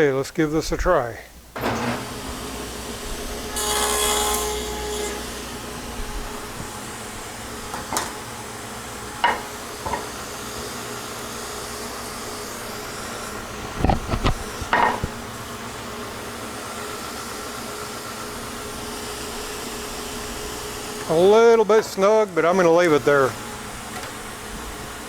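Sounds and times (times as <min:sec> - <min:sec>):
table saw winding down: 0:01.6 - 0:25.0.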